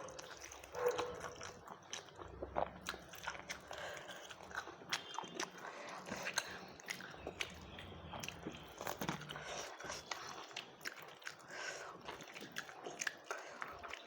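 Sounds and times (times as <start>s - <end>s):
mouth clicks and smacks: 0.0s - 14.0s
person chewing: 0.0s - 14.0s.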